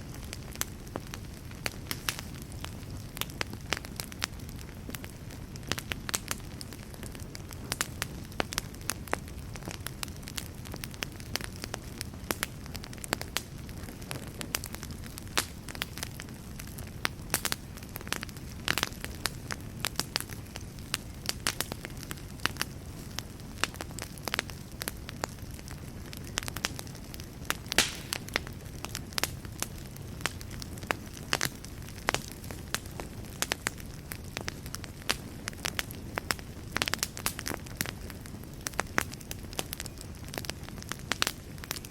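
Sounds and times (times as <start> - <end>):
burning wood crackling and popping: 0.0 - 41.9
low rush of flames: 0.0 - 41.9.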